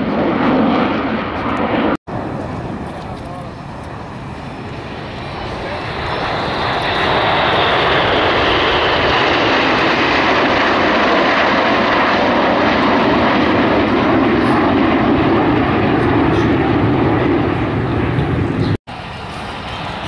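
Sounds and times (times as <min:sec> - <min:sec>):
aircraft engine flying past: 0:00.0 - 0:20.0.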